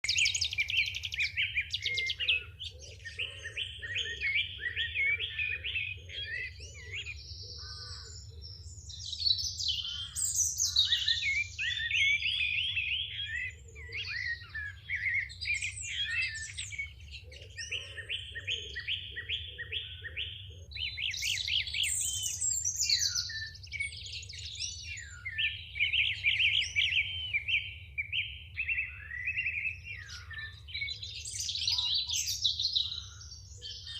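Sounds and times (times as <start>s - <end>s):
songbird singing trills: 0.0s - 33.9s.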